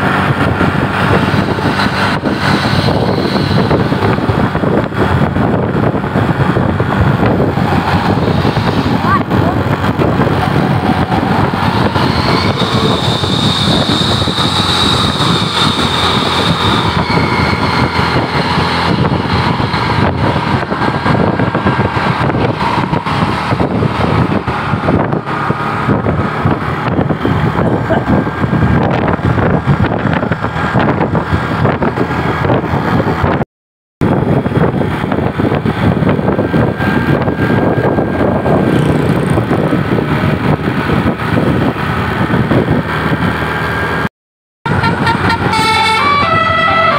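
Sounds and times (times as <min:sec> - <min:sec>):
diesel engine running: 0:00.0 - 0:33.4, 0:34.0 - 0:44.1, 0:44.7 - 0:46.9.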